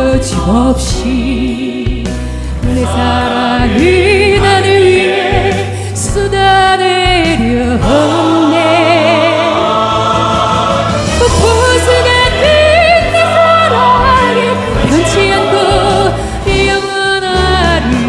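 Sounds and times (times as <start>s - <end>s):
classical singing with vibrato: 2.7s - 18.0s.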